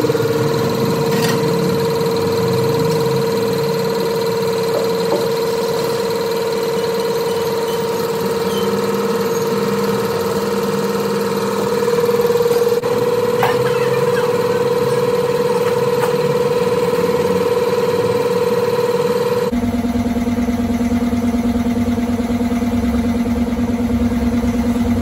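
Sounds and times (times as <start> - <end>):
machine whine: 0.0 - 25.0.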